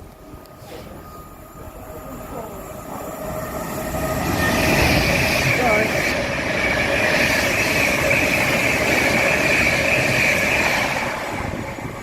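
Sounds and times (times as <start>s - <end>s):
train rail noise: 0.0s - 12.0s.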